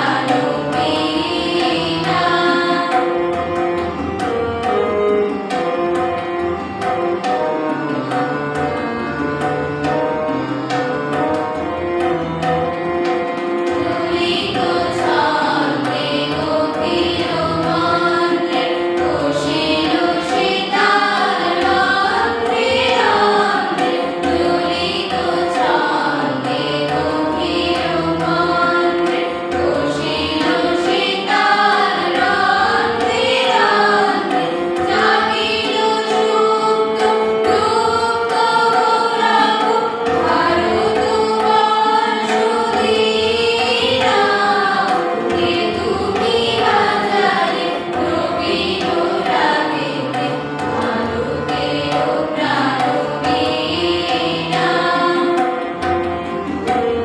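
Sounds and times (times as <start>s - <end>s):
group of young voices singing: 0.0s - 57.0s
harmonium held notes: 0.0s - 57.0s
tabla strokes: 0.0s - 57.0s.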